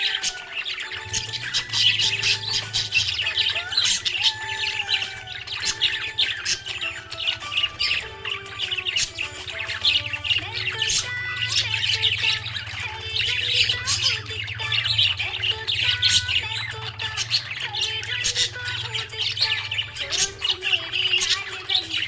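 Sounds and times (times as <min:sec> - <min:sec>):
background music held notes: 0:00.0 - 0:22.0
budgerigar chirping: 0:00.0 - 0:22.0.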